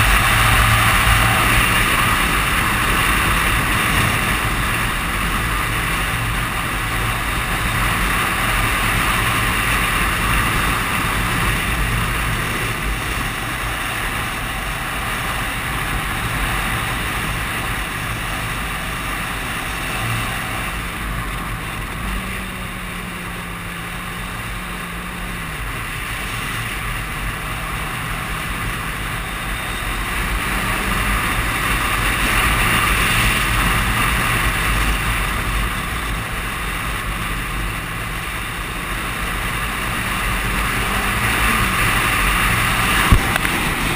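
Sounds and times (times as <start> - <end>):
motorcycle engine running: 0.0 - 43.9
wind rush over microphone: 0.0 - 43.9.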